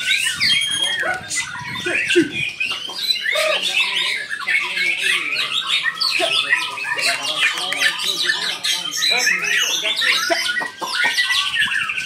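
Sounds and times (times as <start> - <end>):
songbirds singing in chorus: 0.0 - 12.0.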